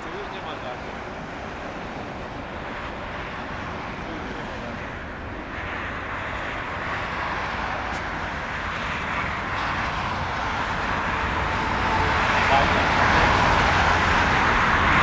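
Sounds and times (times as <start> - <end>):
jet engine rushing: 2.3 - 15.0.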